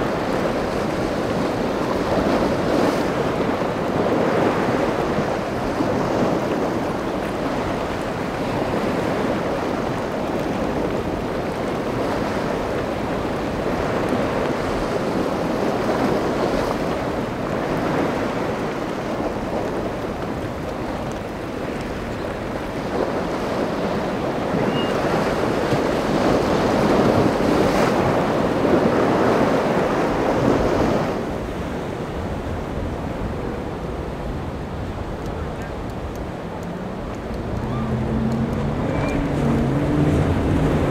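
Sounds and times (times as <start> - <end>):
boat engines running: 0.0 - 31.0, 32.2 - 40.9
rough water: 0.0 - 40.9
wind on the microphone: 0.0 - 40.9.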